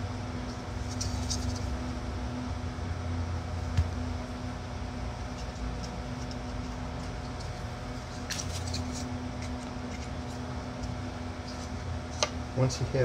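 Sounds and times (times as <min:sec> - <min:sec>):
workshop background hum: 0:00.0 - 0:13.0.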